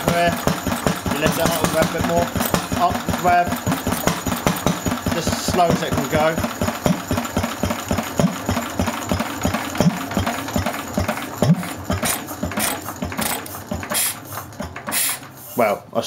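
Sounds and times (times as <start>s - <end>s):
single-cylinder engine firing beats: 0.0s - 15.4s.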